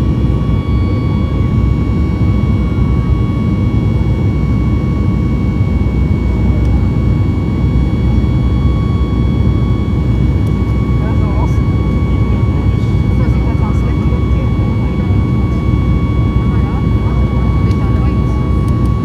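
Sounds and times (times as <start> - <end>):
high engine whine: 0.0 - 19.0
jet engines rumbling: 0.0 - 19.0.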